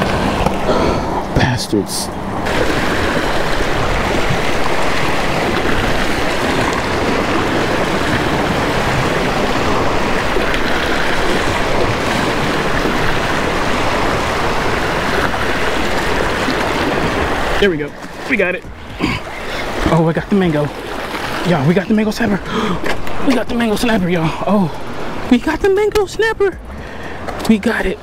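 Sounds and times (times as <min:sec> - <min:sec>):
waves washing over rocks: 0:00.0 - 0:28.0.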